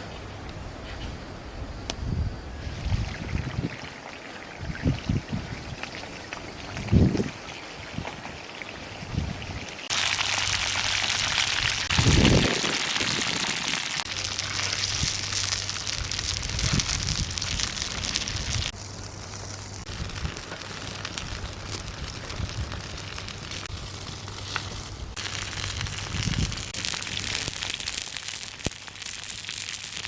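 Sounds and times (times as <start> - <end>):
meat frying in hot oil: 2.7 - 30.0.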